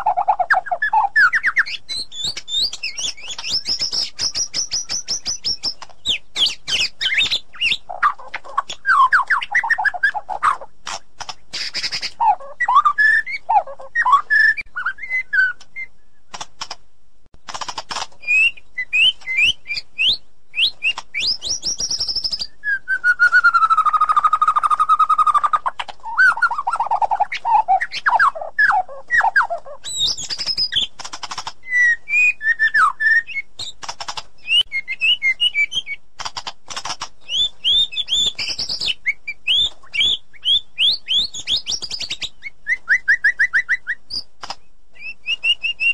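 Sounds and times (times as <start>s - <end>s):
bird singing: 0.0s - 10.8s, 11.4s - 16.3s, 18.2s - 33.8s, 34.4s - 36.0s, 37.2s - 45.9s.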